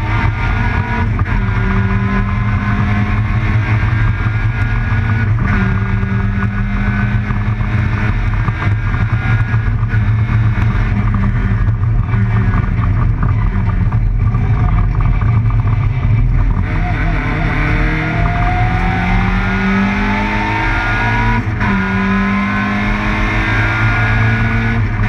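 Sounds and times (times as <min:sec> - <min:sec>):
rally car engine from inside cabin: 0:00.0 - 0:25.0.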